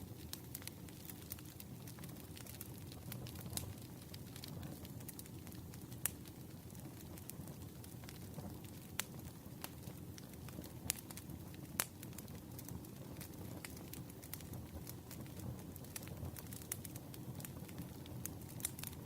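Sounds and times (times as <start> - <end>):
campfire flames rustling: 0.0 - 19.0
wood crackling and popping: 0.0 - 19.0.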